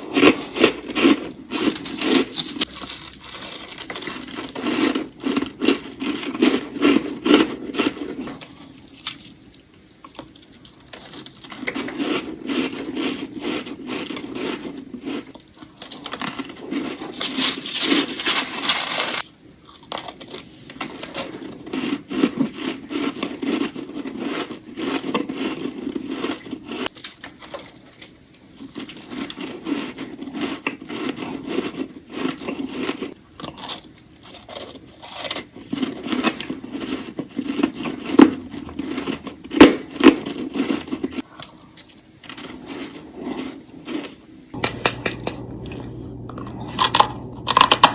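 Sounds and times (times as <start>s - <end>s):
crunching and scraping frost: 0.0s - 47.8s.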